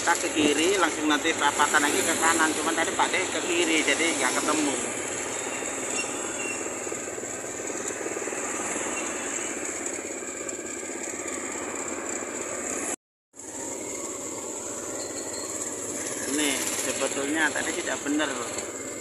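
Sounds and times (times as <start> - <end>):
rattling road noise: 0.0 - 19.0.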